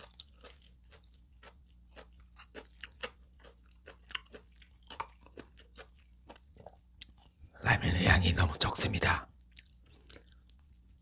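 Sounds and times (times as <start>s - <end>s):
close chewing with wet clicks: 0.0s - 7.4s, 9.4s - 11.0s.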